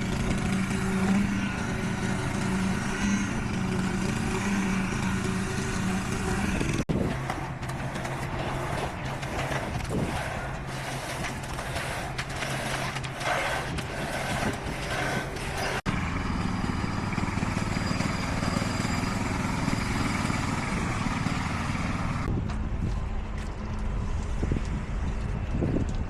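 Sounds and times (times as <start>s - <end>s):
heavy machinery diesel engines running: 0.0s - 26.0s.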